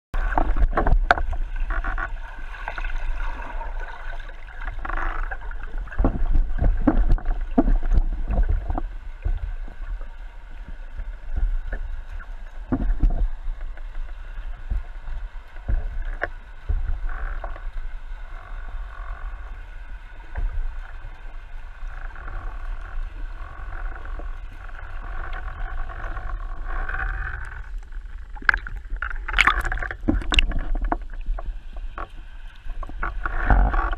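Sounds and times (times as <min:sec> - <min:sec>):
muffled underwater rumble: 0:00.2 - 0:33.9.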